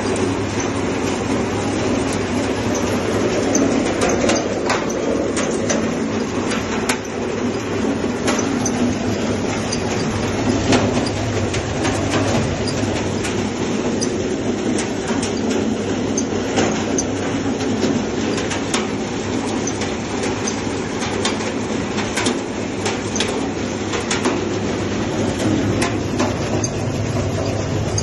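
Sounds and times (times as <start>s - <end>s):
garlic rattling through machine: 0.0s - 28.0s
motor and drum hum: 0.0s - 28.0s.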